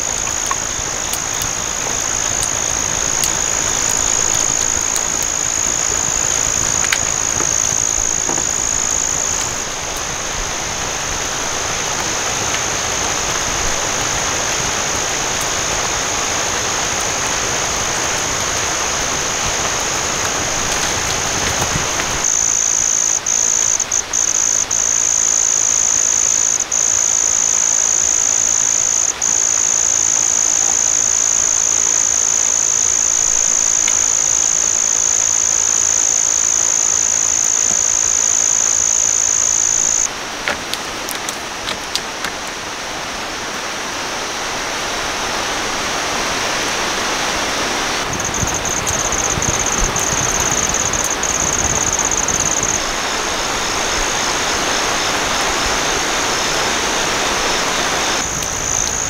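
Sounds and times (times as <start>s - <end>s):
night insects chorus: 0.0s - 59.0s.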